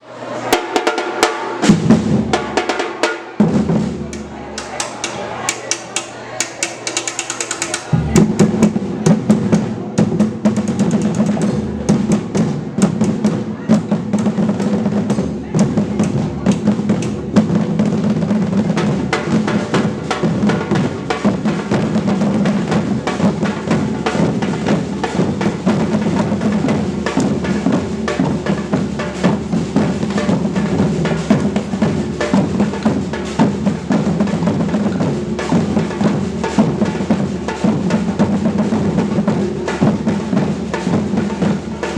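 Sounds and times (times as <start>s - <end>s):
rapid group drumming: 0.5s - 41.9s
deep drum tone: 1.6s - 4.8s, 7.9s - 41.9s.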